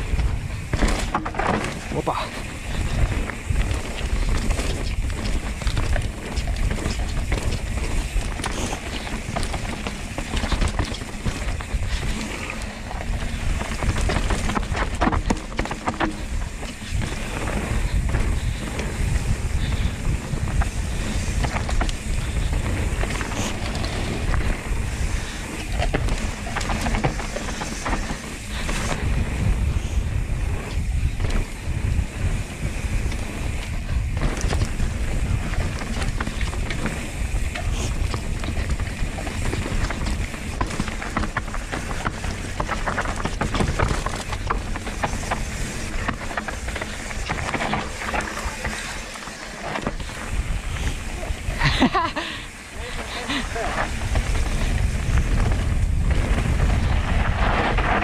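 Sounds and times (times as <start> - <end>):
bike rattling and knocking: 0.0 - 58.0
tyre noise on dirt: 0.0 - 58.0
wind buffeting microphone: 0.0 - 58.0.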